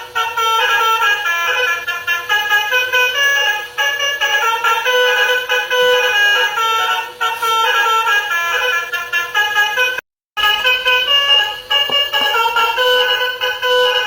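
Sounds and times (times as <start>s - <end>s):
truck multi-tone air horn tune: 0.0s - 14.0s.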